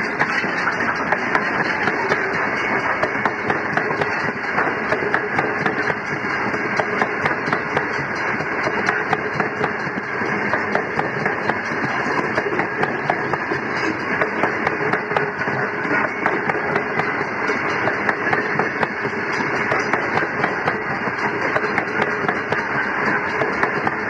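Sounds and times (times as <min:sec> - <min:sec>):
freight train wheels rolling: 0:00.0 - 0:24.0
wheel and coupling clanks: 0:00.0 - 0:24.0.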